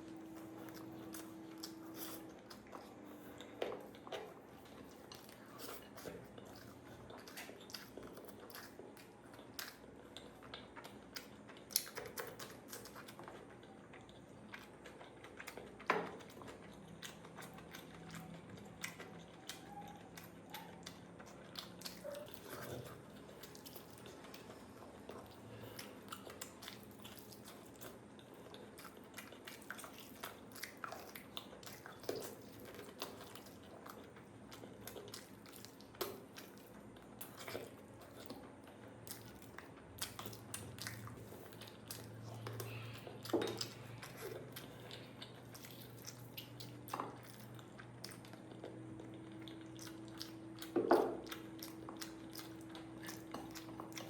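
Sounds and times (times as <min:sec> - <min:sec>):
food crunching: 0:00.0 - 0:54.0
mouth chewing and smacking: 0:00.0 - 0:54.0.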